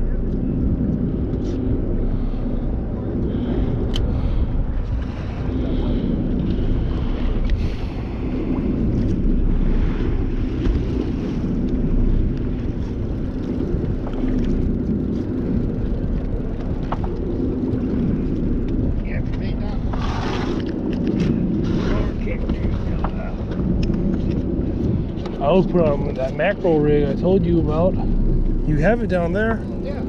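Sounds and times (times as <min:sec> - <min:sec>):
boat engine rumble: 0:00.0 - 0:30.0
wind buffeting microphone: 0:00.0 - 0:30.0.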